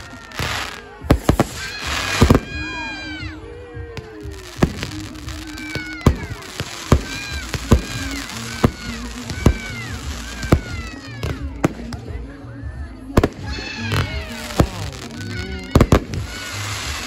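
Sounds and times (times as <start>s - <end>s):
falling firework whistles: 0.0s - 3.2s, 4.5s - 11.9s, 13.2s - 17.0s
fireworks bursting with sharp bangs: 0.0s - 17.0s.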